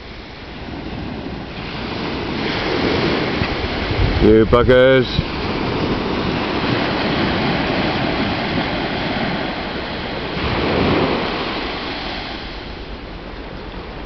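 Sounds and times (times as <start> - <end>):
sea surf washing onto beach: 0.0 - 14.0
wind rumbling on microphone: 0.0 - 14.0.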